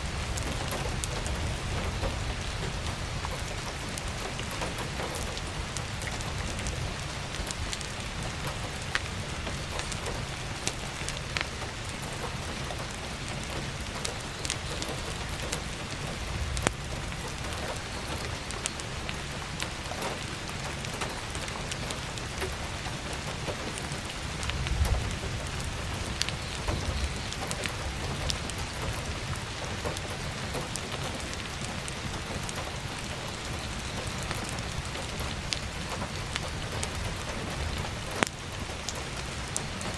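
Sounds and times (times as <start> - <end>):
firewood crackling and popping: 0.0 - 39.9
heavy rain on skylight: 0.0 - 39.9.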